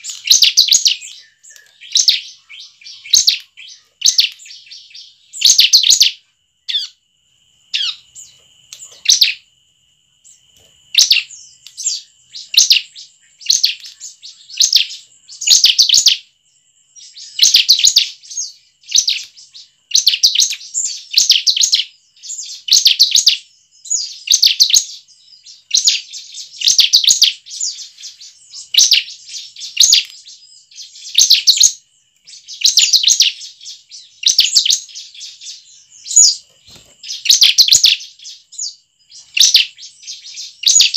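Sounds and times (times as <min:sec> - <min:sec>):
bird chirping rapidly: 0:00.0 - 0:07.0, 0:07.7 - 0:09.4, 0:10.9 - 0:16.3, 0:16.9 - 0:40.9.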